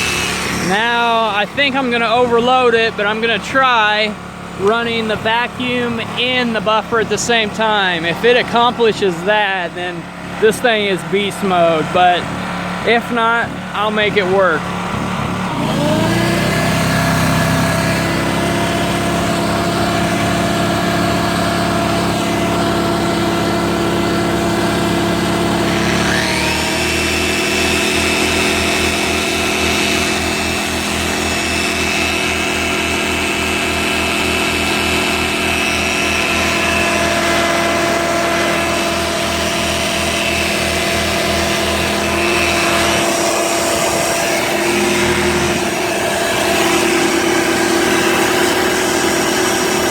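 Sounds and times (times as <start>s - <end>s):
generator engine running: 0.0s - 49.9s
tool motor whine: 0.0s - 49.9s.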